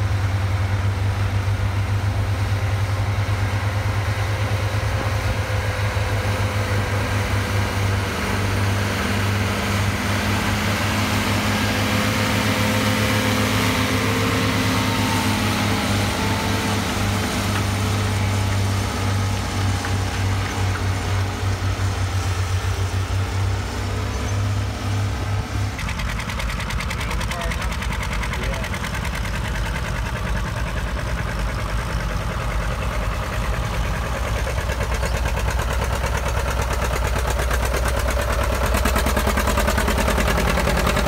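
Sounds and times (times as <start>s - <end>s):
tractor engine throbbing: 0.0s - 41.0s.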